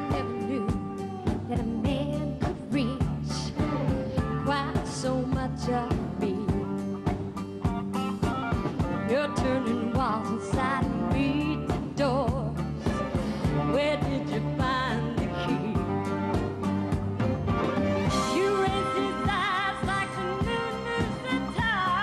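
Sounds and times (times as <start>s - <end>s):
woman singing: 0.0s - 6.9s, 9.0s - 16.1s, 18.1s - 22.0s
band backing with drum beat: 0.0s - 22.0s.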